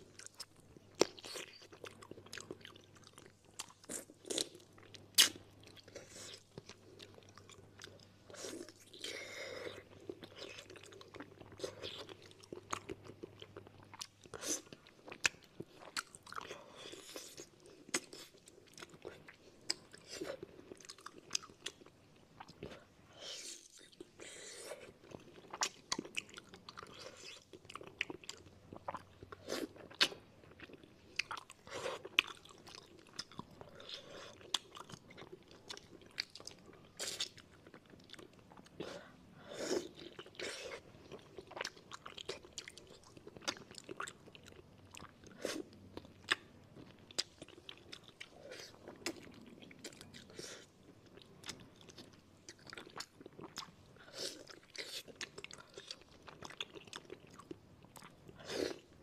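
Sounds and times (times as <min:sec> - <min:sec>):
wet chewing and smacking: 0:00.0 - 0:22.8, 0:23.6 - 0:38.9, 0:39.8 - 0:59.0.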